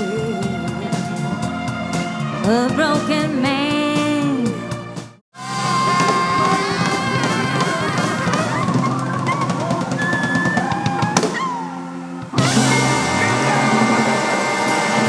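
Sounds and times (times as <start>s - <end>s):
drum kit beat: 0.0s - 11.4s, 12.3s - 15.0s
orchestra and band playing soul: 0.0s - 15.0s.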